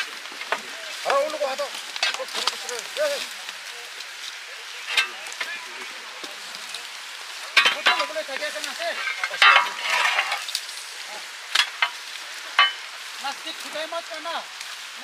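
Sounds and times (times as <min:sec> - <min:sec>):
rustling through tall grass: 0:00.0 - 0:15.0
scraping muddy ground: 0:00.0 - 0:15.0
faint voices: 0:00.5 - 0:15.0.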